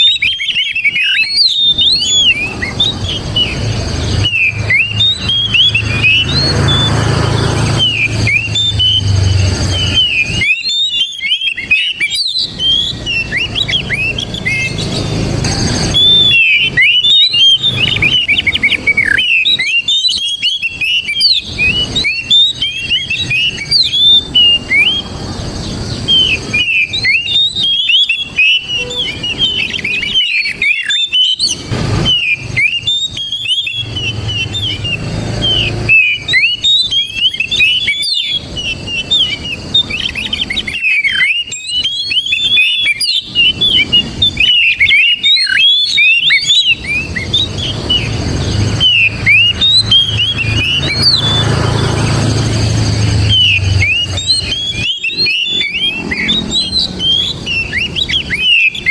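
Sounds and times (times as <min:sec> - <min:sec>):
bird whistling and chirping: 0:00.0 - 0:58.9.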